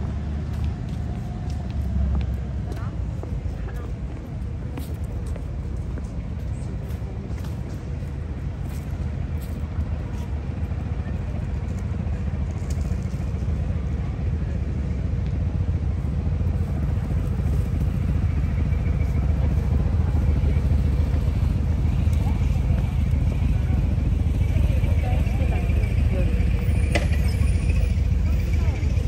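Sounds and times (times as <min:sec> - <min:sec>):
city street traffic rumble: 0:00.0 - 0:29.0.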